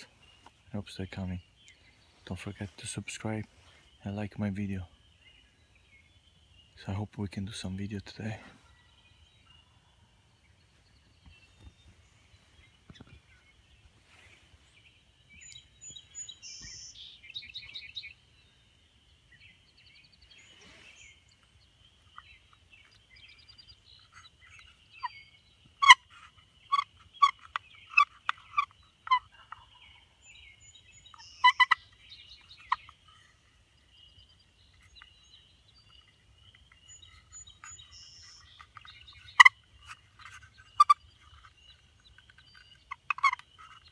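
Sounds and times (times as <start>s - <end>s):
songbird notes: 0.0s - 43.9s.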